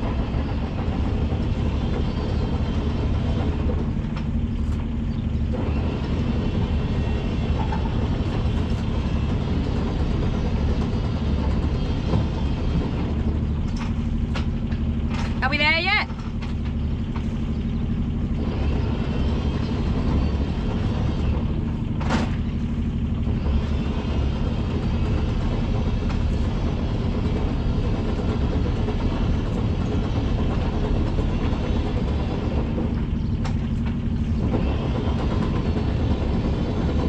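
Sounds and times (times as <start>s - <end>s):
diesel engine low rumble: 0.0s - 37.0s.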